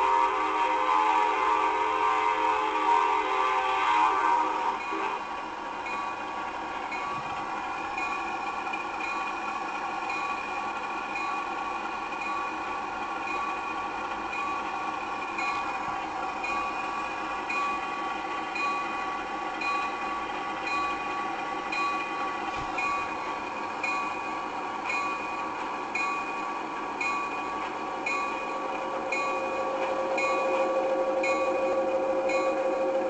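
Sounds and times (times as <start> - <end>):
locomotive idling: 0.0 - 33.0
locomotive bell ringing: 4.7 - 5.2, 5.8 - 33.0.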